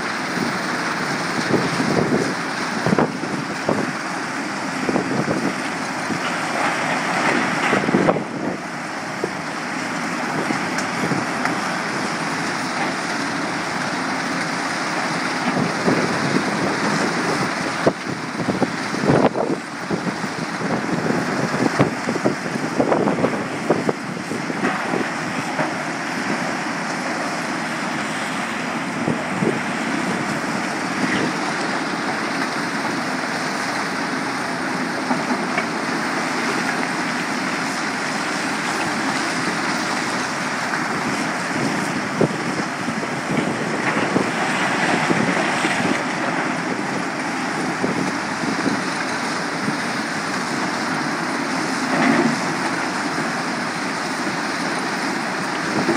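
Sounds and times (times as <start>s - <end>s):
diesel engines: 0.0s - 55.9s
rock crusher running: 0.0s - 55.9s.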